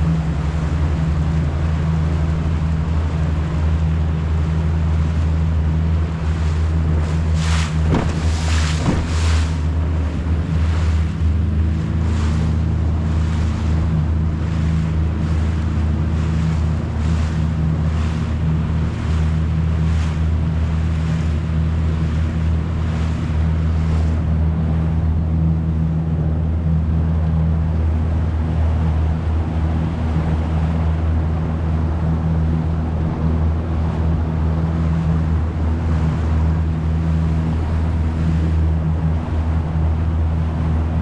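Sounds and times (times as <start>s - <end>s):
boat motor droning: 0.0s - 41.0s
water splashing against hull: 0.0s - 41.0s
wind on microphone: 0.0s - 41.0s.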